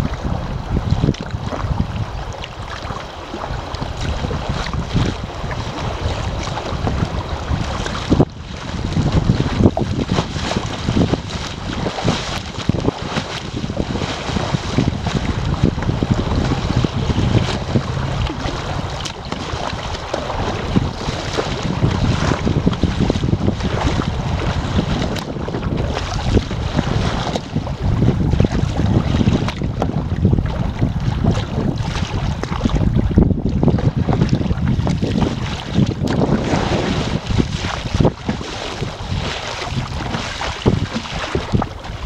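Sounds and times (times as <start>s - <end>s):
water splashing against kayak: 0.0s - 42.0s.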